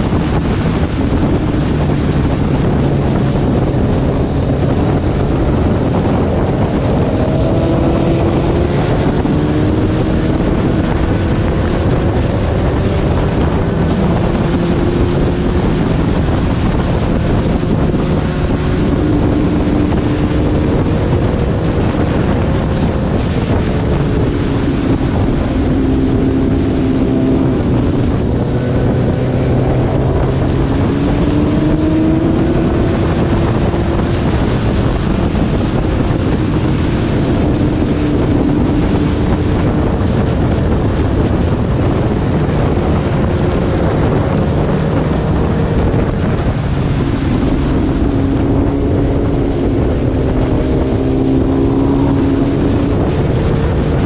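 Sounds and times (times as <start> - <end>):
motorcycle engine running at speed: 0.0 - 54.0
wind rush on microphone: 0.0 - 54.0.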